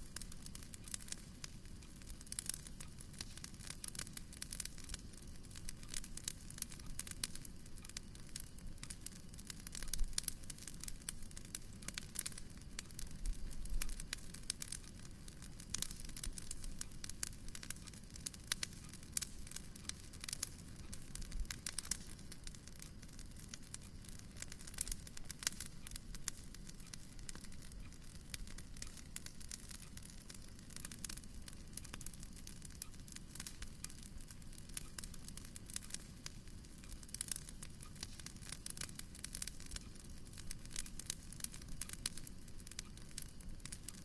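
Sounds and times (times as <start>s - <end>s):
fire crackling: 0.0s - 44.0s
fire low rumble: 0.0s - 44.0s.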